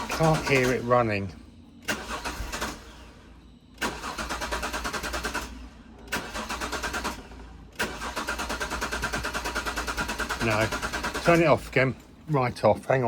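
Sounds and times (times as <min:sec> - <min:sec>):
engine cranking on starter motor: 0:00.0 - 0:12.3.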